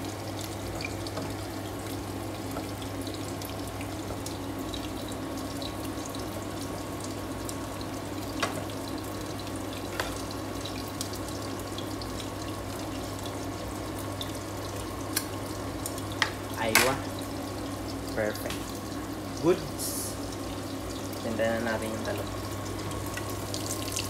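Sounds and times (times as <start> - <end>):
sauce bubbling and sizzling: 0.0 - 24.0.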